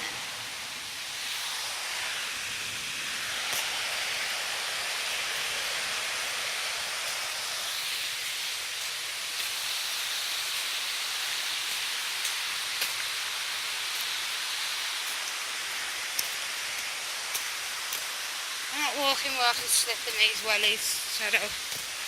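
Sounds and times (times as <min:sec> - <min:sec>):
water rushing over waterfall: 0:00.0 - 0:22.0.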